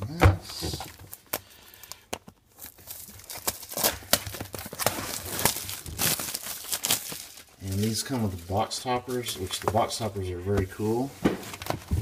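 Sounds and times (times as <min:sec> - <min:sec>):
plastic shrink wrap crinkling: 0:00.5 - 0:12.0.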